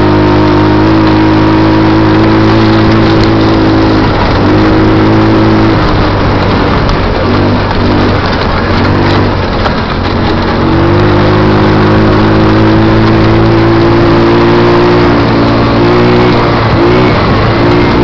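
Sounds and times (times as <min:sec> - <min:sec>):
go-kart engine running: 0:00.0 - 0:18.0.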